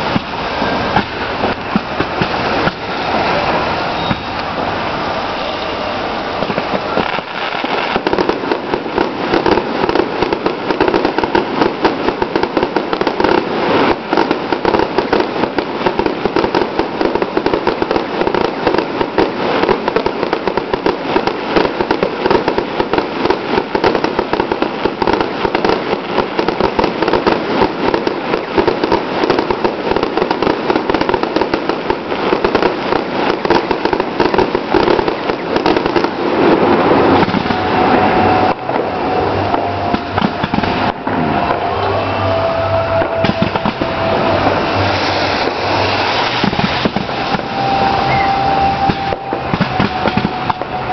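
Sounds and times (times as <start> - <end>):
fireworks crackling and popping: 0.0 - 50.9.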